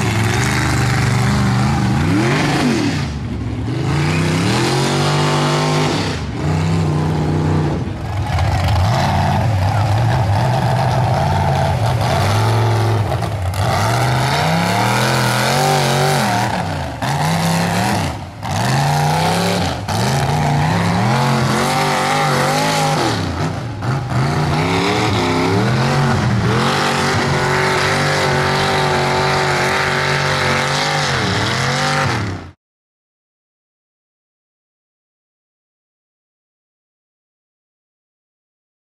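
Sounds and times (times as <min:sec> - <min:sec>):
truck engine revving hard: 0:00.0 - 0:32.6.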